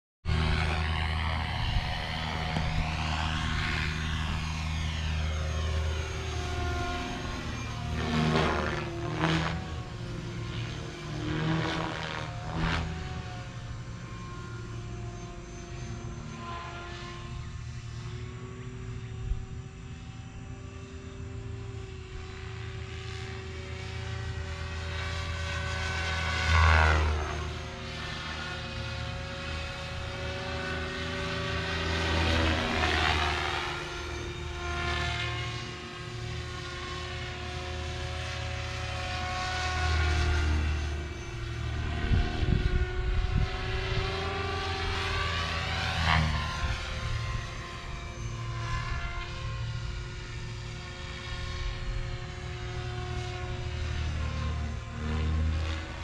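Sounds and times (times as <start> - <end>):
model helicopter humming: 0.3 - 56.0.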